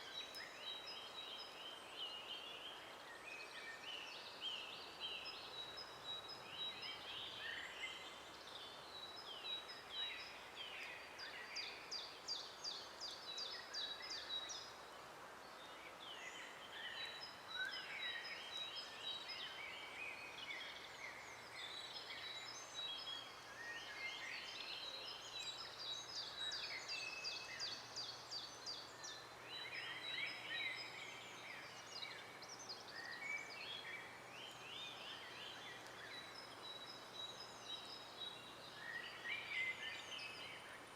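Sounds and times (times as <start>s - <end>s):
faint steady hiss: 0.0s - 40.9s
songbirds singing: 0.0s - 40.9s.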